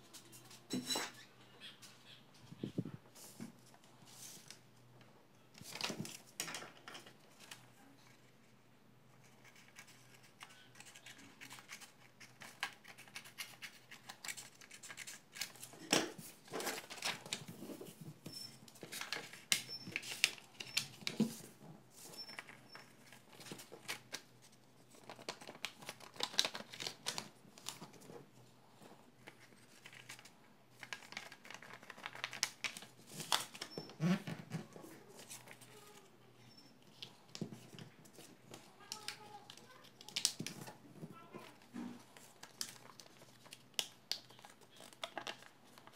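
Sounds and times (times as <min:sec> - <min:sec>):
paper rustling and folding: 0:02.5 - 0:04.7, 0:05.4 - 0:08.6, 0:09.2 - 0:45.9.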